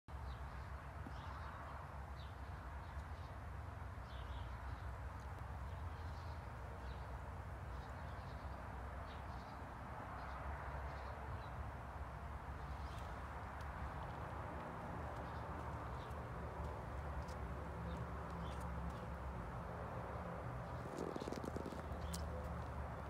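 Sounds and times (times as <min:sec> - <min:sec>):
small birds chirping: 0:04.1 - 0:23.0.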